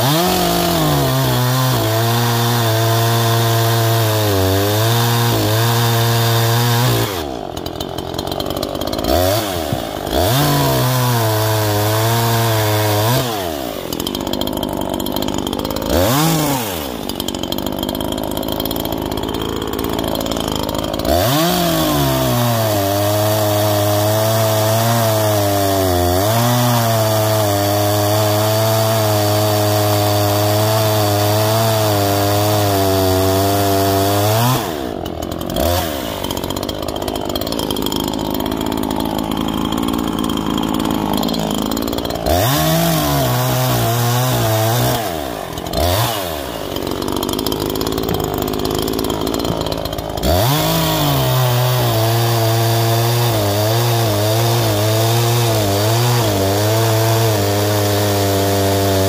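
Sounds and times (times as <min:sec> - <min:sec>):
chainsaw cutting logs: 0:00.0 - 0:59.0
chainsaw idling with throttle blips: 0:00.0 - 0:59.0.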